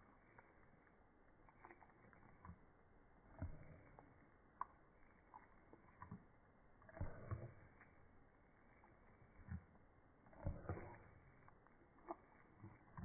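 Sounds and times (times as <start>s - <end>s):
dog licking and smacking lips: 0.0s - 13.0s.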